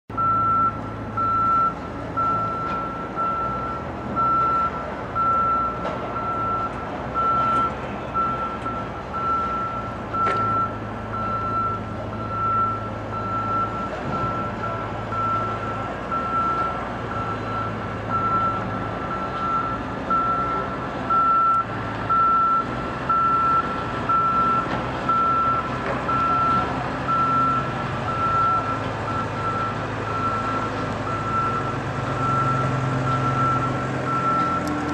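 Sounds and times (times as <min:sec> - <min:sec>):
low engine hum: 0:00.1 - 0:34.9
back-up alarm beeping: 0:00.2 - 0:34.7.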